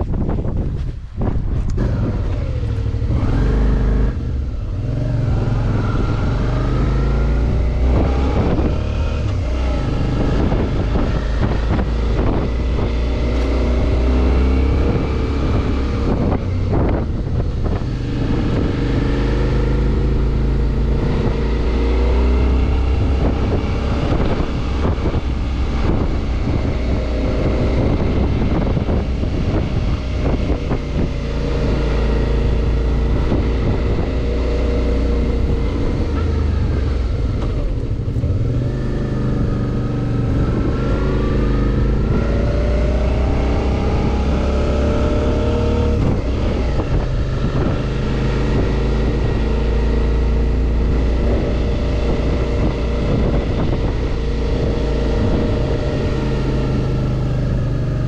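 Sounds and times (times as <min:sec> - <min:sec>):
motorcycle engine under load: 0:00.0 - 0:58.0
wind noise on microphone: 0:00.0 - 0:58.0.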